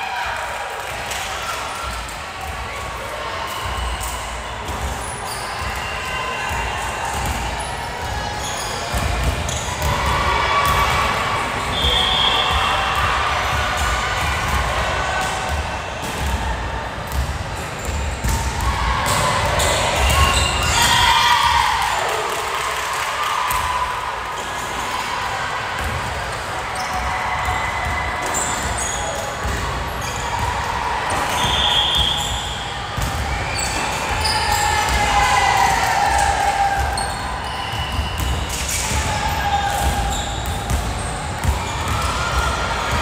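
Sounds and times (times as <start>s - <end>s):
people shouting and cheering: 0.0s - 43.0s.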